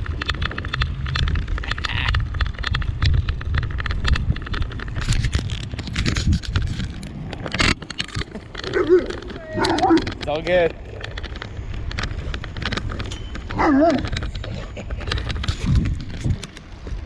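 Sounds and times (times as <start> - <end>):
bicycle clicking and crackling: 0.0 - 17.0
wind rumble on microphone: 0.0 - 17.0.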